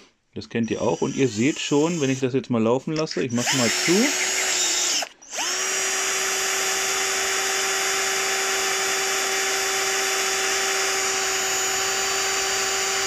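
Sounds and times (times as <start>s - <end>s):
cordless drill whining: 0.6s - 2.2s, 3.1s - 13.0s.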